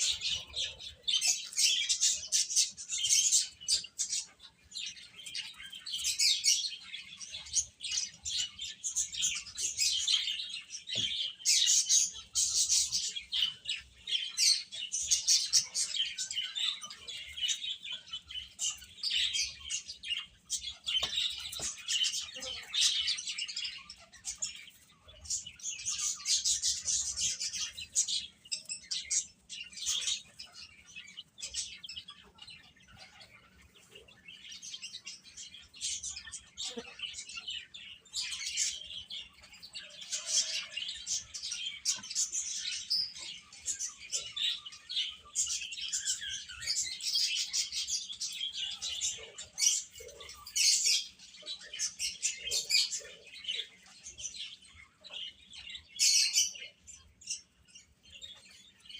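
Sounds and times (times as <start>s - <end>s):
baby chicks peeping: 0.0s - 58.9s.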